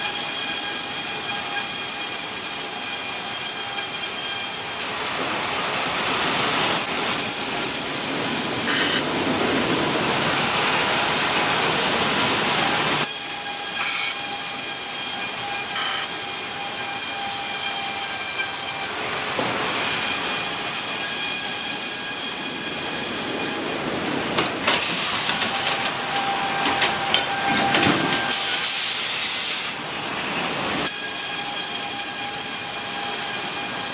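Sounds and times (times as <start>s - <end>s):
high saw whine: 0.0s - 5.0s, 10.2s - 19.0s, 19.7s - 24.1s, 24.8s - 33.9s.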